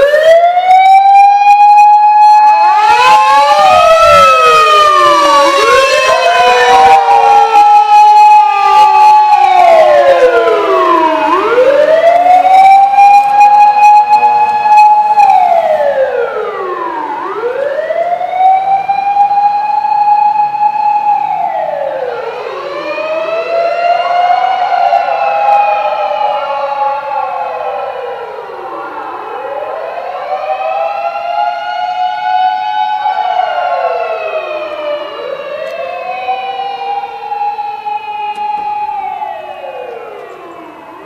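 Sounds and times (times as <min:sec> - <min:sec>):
fire engine siren wailing: 0:00.0 - 0:41.0.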